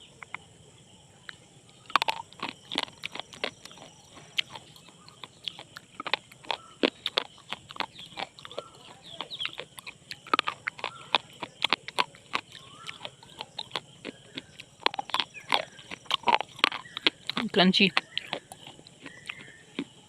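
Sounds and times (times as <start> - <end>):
slate pencil crunching when bitten: 1.9 - 19.9.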